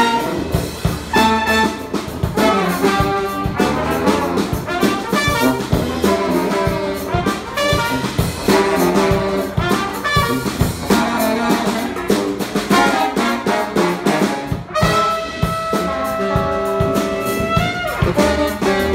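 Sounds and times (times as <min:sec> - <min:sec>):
drum kit beat: 0:00.0 - 0:18.9
saxophone: 0:00.0 - 0:18.9
trombone: 0:00.0 - 0:18.9
trumpet: 0:00.0 - 0:18.9.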